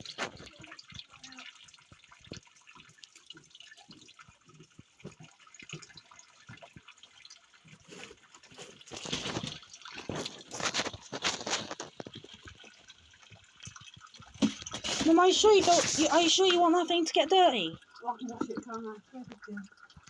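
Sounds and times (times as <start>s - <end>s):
water splashing: 0.0s - 20.0s
water trickling in a waterfall: 0.0s - 20.0s.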